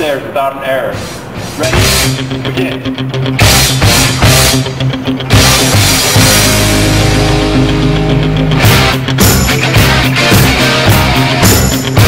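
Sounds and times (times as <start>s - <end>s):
heavy rock music: 1.0s - 12.0s.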